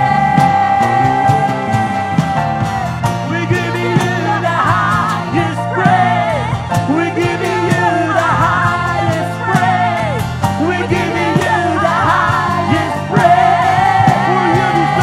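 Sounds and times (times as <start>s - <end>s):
man singing: 0.0s - 15.0s
steady low notes: 0.0s - 15.0s.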